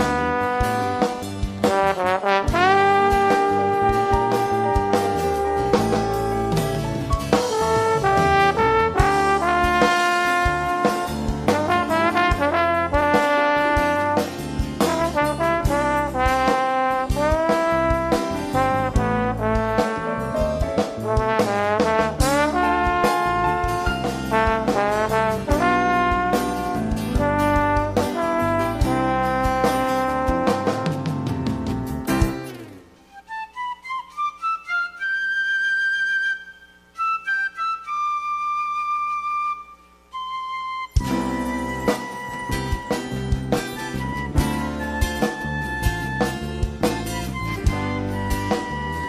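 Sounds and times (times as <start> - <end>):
trombone solo melody: 0.0 - 31.4, 41.0 - 49.0
band accompaniment with electric bass: 0.0 - 33.8, 40.8 - 49.0.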